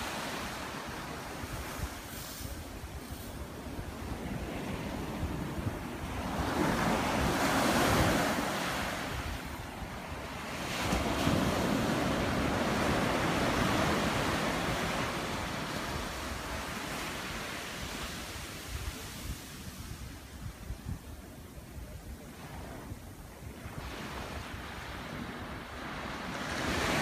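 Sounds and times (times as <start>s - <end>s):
ocean surf breaking on a beach: 0.0s - 27.0s
wind buffeting the microphone: 0.0s - 27.0s.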